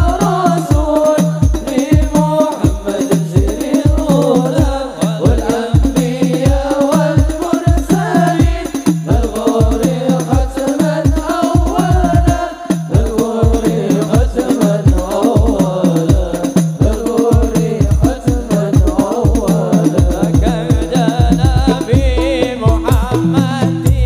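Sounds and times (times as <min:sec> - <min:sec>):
frame drums beating: 0:00.0 - 0:24.0
men singing together: 0:00.0 - 0:24.0.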